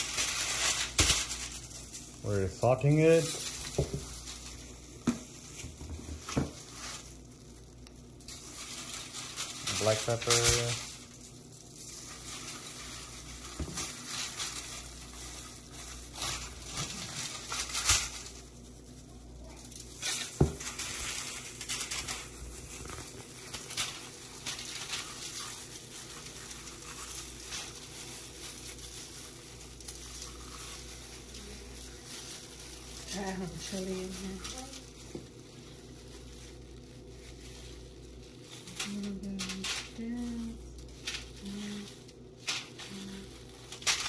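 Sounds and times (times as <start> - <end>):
aluminium foil crinkling: 0.0 - 44.0
plastic gloves rustling: 0.0 - 44.0.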